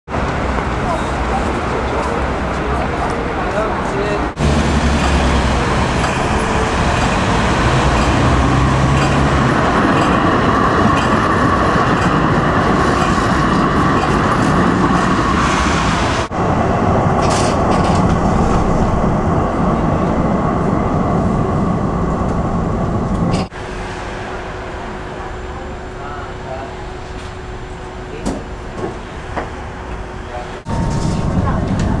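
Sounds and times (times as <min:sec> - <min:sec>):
tram wheels rumbling on rails: 0:00.1 - 0:32.0.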